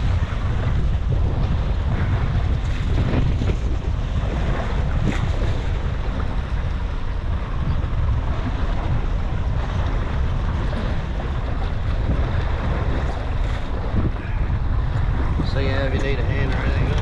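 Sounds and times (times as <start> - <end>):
choppy sea against boat hull: 0.0 - 17.0
wind buffeting microphone: 0.0 - 17.0.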